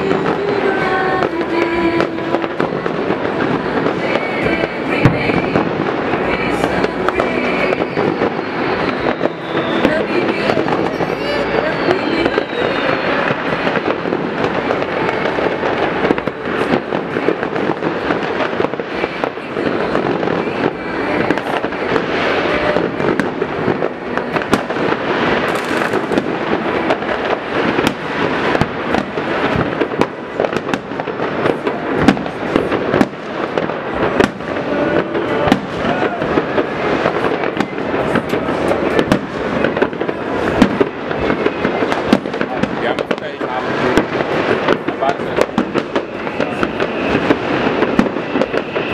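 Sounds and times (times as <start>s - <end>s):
distant fireworks bangs and crackles: 0.0s - 48.9s
sharp firework cracks: 0.0s - 48.9s.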